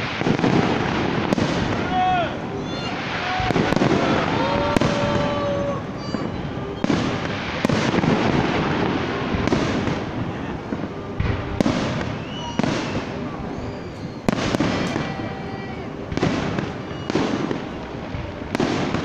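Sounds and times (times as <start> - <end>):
firework crackling: 0.0 - 19.0
firework shells bursting: 0.0 - 19.0.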